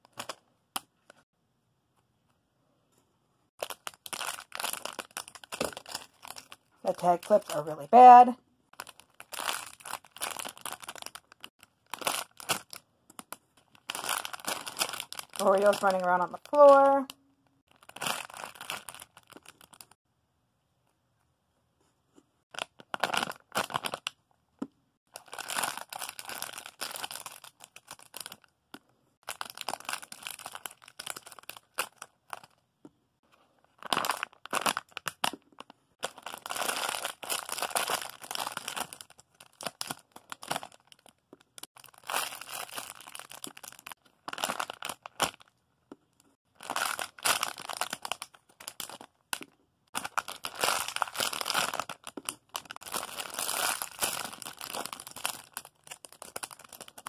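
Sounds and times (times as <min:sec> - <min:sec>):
plastic packaging crinkling: 0:03.6 - 0:17.1, 0:17.7 - 0:20.0, 0:22.5 - 0:24.1, 0:25.1 - 0:28.5, 0:29.2 - 0:32.6, 0:33.7 - 0:45.5, 0:46.5 - 0:57.0.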